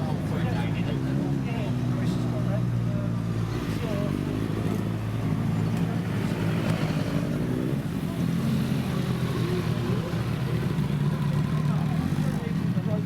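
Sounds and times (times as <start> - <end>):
crowd chatter: 0.0 - 13.0
motorcycle engines idling: 0.0 - 13.0.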